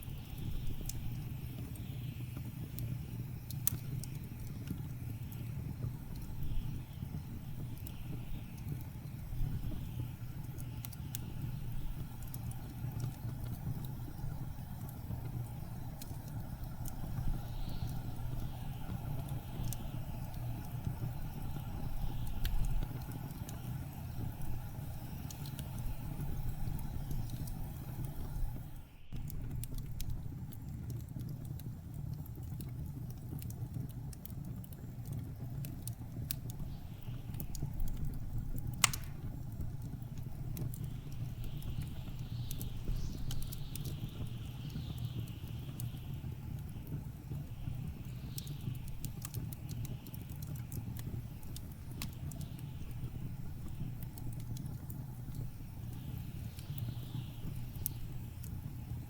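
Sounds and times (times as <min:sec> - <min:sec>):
low rumble of blizzard wind: 0:00.0 - 0:59.0
wood fire crackling and popping: 0:00.0 - 0:59.0.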